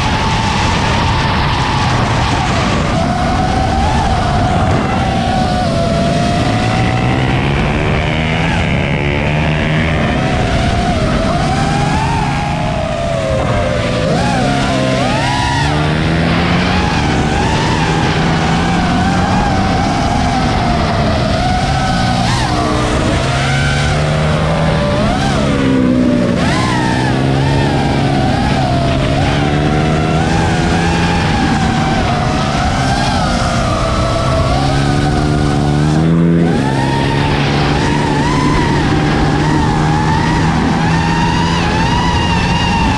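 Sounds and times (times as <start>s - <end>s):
small motorcycle engines revving: 0.0s - 42.9s.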